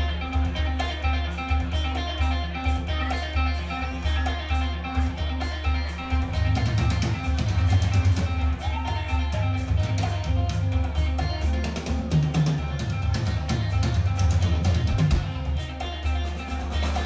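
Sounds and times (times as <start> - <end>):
drum kit beat: 0.0 - 17.0
electric guitar: 0.0 - 17.0.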